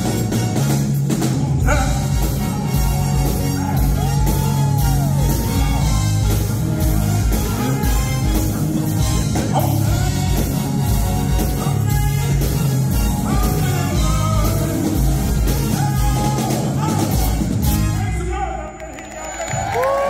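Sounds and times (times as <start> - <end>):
drum beat: 0.0 - 18.0
live rock and roll band: 0.0 - 20.0
man singing: 1.3 - 18.2.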